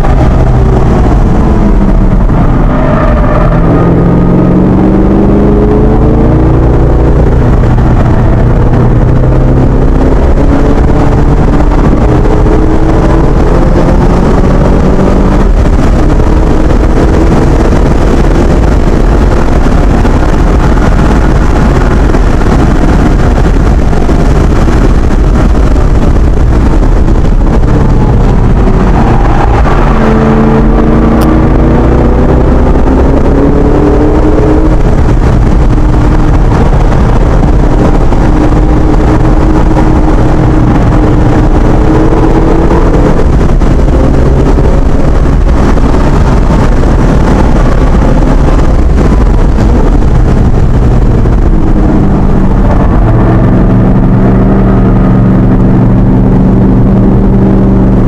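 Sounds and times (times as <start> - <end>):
car engine accelerating: 0.0 - 58.0
wind and road roar: 0.0 - 58.0.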